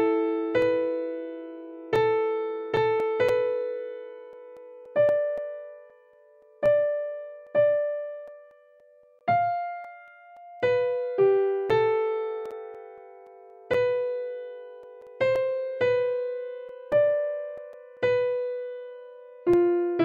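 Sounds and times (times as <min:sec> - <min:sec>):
slow solo piano music: 0:00.0 - 0:20.0.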